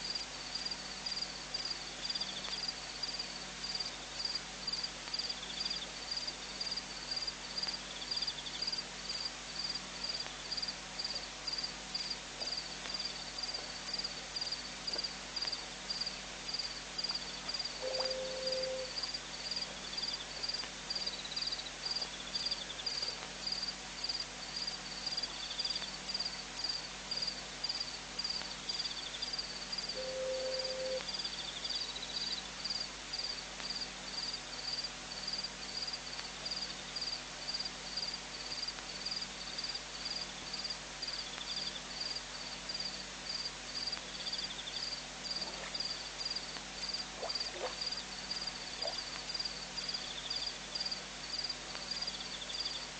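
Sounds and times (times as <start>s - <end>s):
insects chirping: 0.0s - 52.9s
insect trills: 0.1s - 52.9s.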